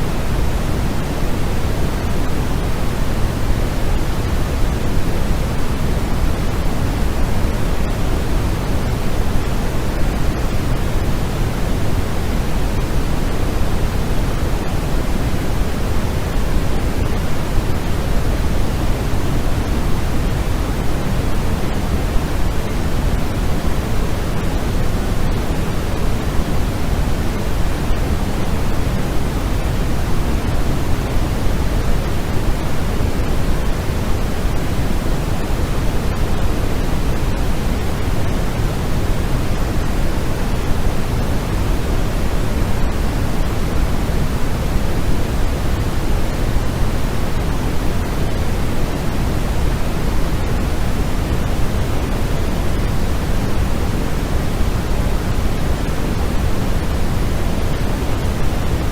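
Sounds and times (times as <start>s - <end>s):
steady white noise: 0.0s - 58.9s.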